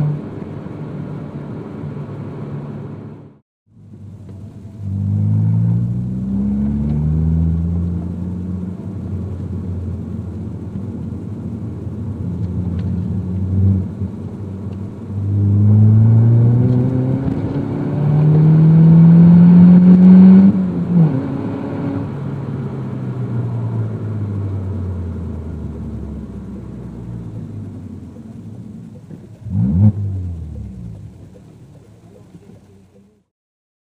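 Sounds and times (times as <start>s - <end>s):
car engine accelerating: 0.0s - 33.3s.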